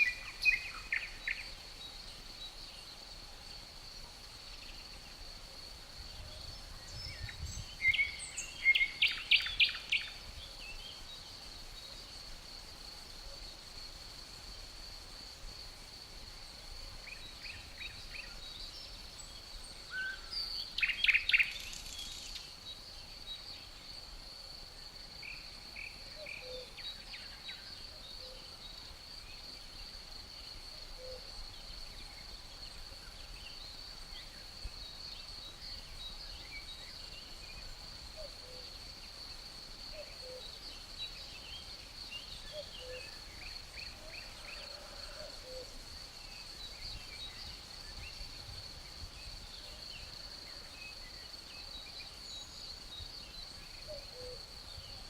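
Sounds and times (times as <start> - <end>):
crickets trilling: 0.0 - 55.0
songbirds chirping: 0.0 - 55.0.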